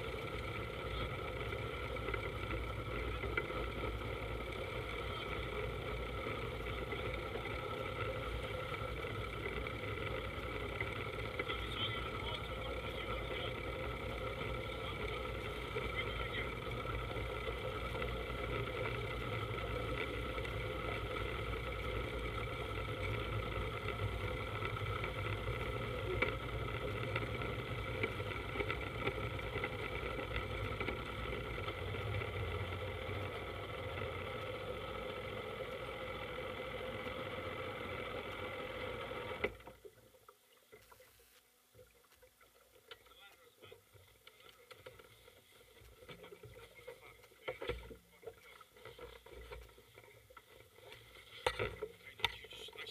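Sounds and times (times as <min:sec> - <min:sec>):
speedboat engine running: 0:00.0 - 0:40.4, 0:41.8 - 0:52.9
water and hull noise: 0:00.0 - 0:52.9.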